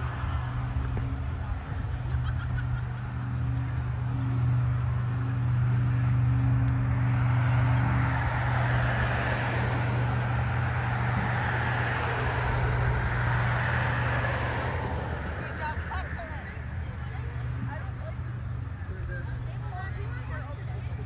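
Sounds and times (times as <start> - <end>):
car tyre and road noise: 0.0 - 21.0
steady low engine drone: 0.0 - 21.0.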